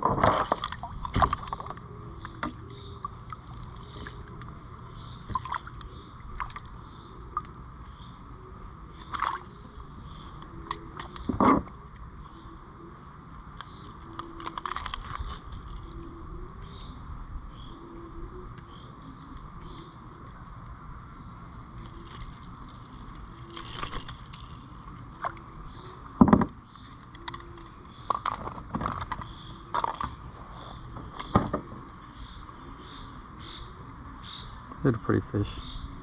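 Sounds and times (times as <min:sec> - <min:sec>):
insects buzzing: 0:00.2 - 0:36.0.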